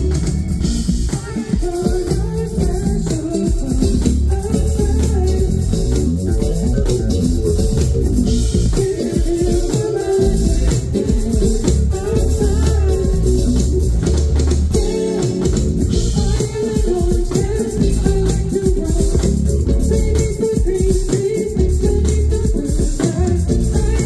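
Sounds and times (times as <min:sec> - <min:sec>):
drum kit playing: 0:00.0 - 0:24.0
electric bass guitar: 0:00.0 - 0:24.0.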